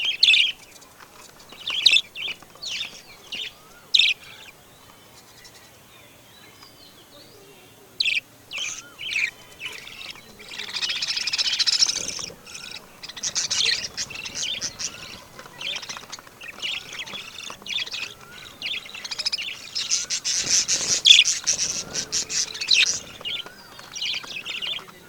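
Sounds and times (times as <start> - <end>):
birds chirping and squawking: 0.0 - 5.8, 8.0 - 25.0.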